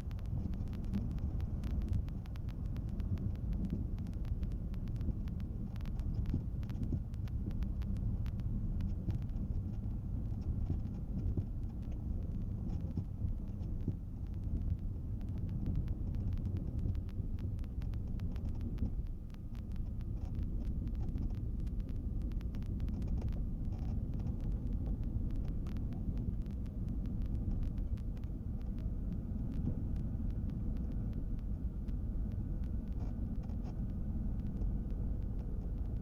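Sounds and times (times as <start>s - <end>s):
small clicks and rattles: 0.0s - 36.0s.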